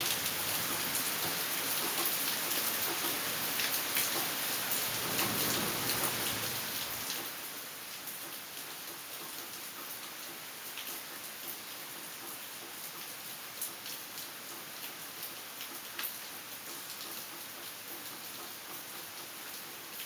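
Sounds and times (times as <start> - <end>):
raindrops ticking on surfaces: 0.0 - 20.0
steady rain falling: 0.0 - 20.0.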